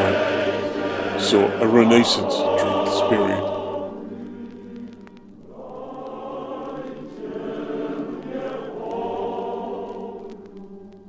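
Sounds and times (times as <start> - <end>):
choir singing held chords: 0.0 - 11.0.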